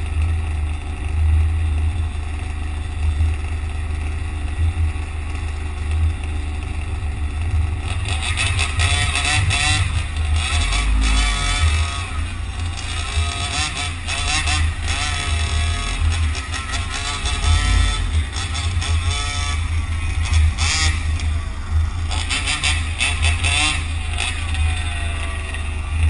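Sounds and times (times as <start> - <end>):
higher rasping vehicle sound: 0.0 - 26.0
traffic low rumble: 0.0 - 26.0.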